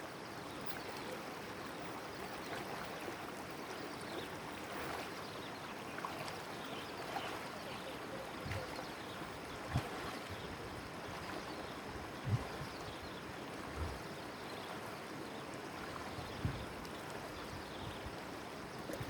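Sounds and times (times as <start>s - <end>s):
water lapping around boat: 0.4s - 19.0s.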